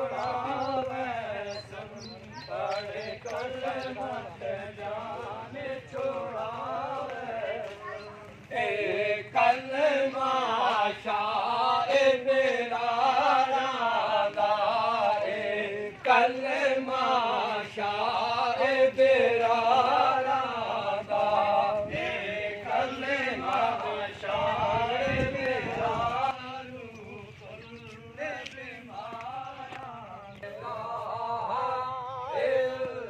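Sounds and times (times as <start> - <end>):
men chanting in procession: 0.0 - 33.0.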